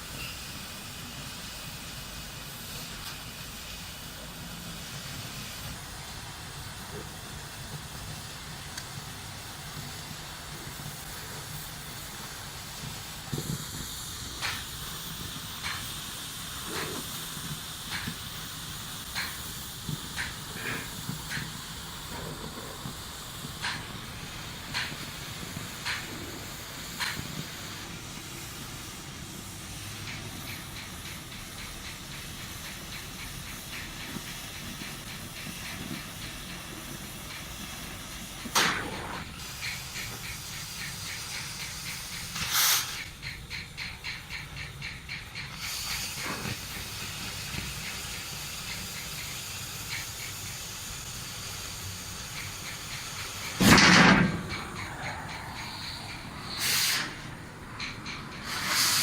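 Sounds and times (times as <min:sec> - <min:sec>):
loud hissing blasts: 0:00.0 - 0:59.0
steady hiss: 0:00.0 - 0:59.0.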